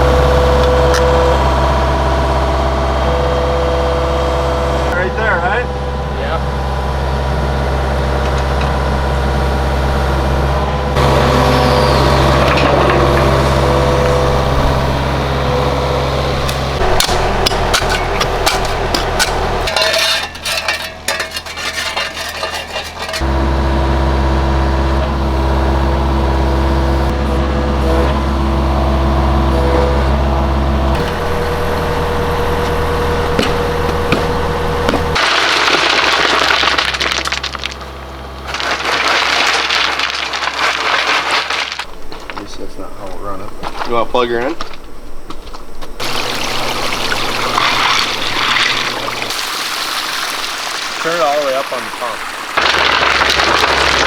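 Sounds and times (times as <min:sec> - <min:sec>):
engine running: 0:00.0 - 0:43.6, 0:45.0 - 0:54.0.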